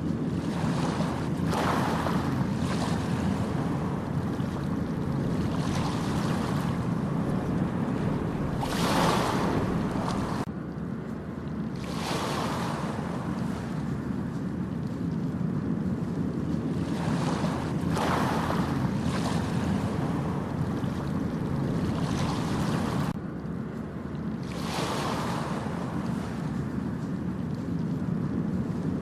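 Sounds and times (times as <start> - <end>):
ocean waves breaking: 0.0 - 10.5, 11.6 - 23.2, 24.0 - 29.0
low rumble of surf: 0.0 - 29.0
wind buffeting microphone: 0.0 - 29.0.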